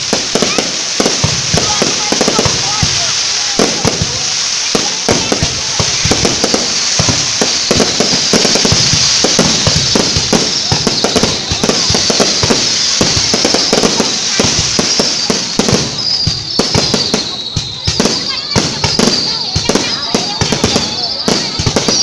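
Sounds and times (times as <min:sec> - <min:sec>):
fireworks bangs and crackling: 0:00.0 - 0:22.0
fireworks falling whistles: 0:00.0 - 0:22.0.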